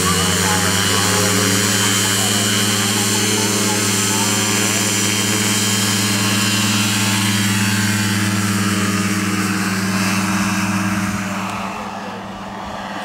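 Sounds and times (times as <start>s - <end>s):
propeller engine drone: 0.0s - 13.0s.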